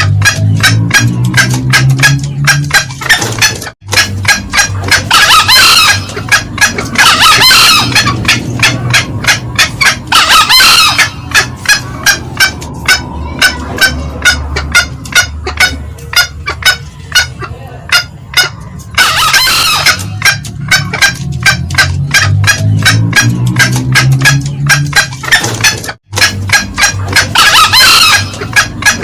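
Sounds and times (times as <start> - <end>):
junglefowl cackling: 0.0 - 29.0
junglefowl crowing: 0.0 - 29.0.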